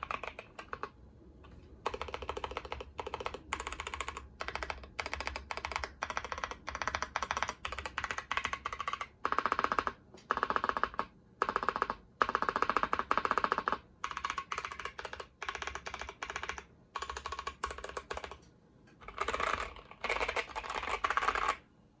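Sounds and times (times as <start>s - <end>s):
mechanical keyboard typing: 0.0s - 21.6s.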